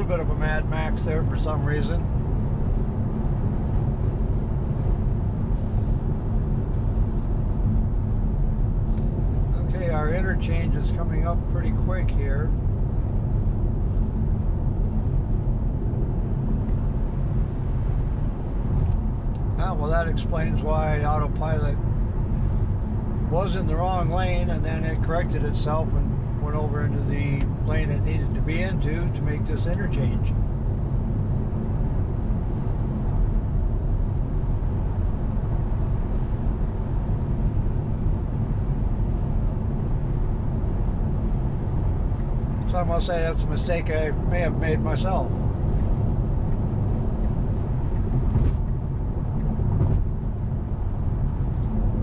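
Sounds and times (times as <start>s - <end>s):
road and tyre rumble: 0.0s - 52.0s.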